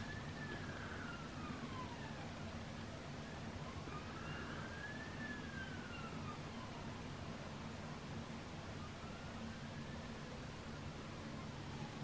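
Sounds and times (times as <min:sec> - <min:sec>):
faint wailing siren: 0:00.0 - 0:12.0.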